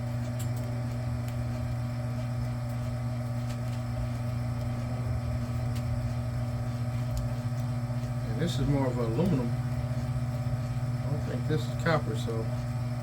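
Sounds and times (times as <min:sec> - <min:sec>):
wire stripping machine motor humming: 0:00.0 - 0:13.0.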